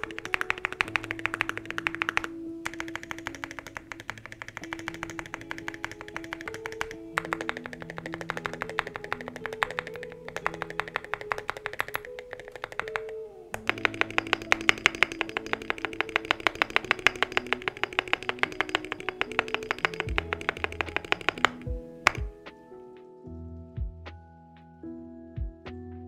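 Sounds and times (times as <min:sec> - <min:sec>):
mechanical keyboard typing: 0:00.0 - 0:22.4
background music: 0:00.0 - 0:26.0.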